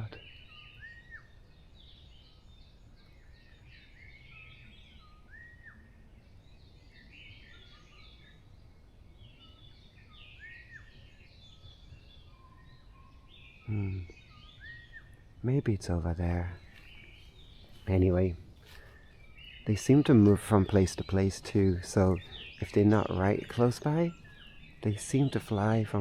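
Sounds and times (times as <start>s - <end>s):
faint songbirds chirping: 0.0s - 26.0s.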